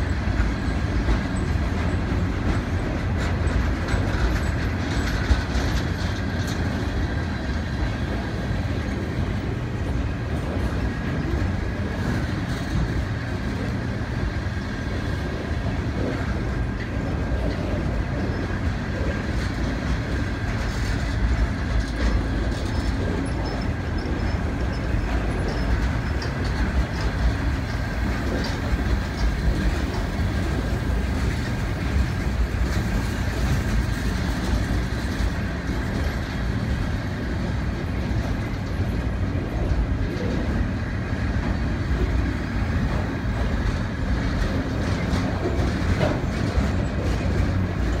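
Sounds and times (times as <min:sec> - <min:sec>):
train wheels rumbling on rail: 0:00.0 - 0:48.0
wheels clicking over rail joints: 0:00.0 - 0:48.0.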